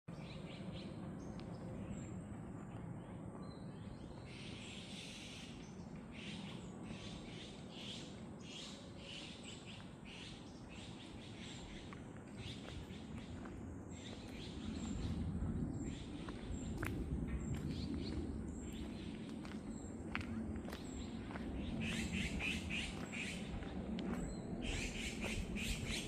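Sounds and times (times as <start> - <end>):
birds chirping: 0.1 - 26.0
steady low rumble: 0.1 - 26.0.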